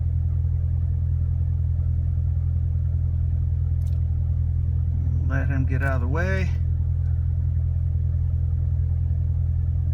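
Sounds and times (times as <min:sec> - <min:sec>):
car engine low rumble: 0:00.0 - 0:09.9.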